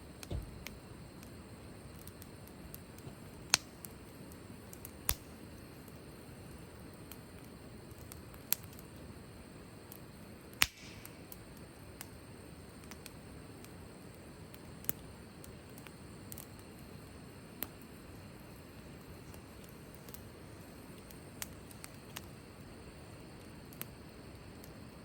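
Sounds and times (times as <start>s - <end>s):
fire hissing: 0.0s - 25.0s
wood fire crackling: 0.0s - 25.0s.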